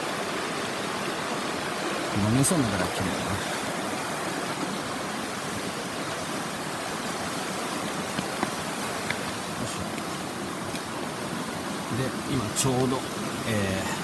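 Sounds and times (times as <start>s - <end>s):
mountain stream flowing: 0.0s - 14.0s.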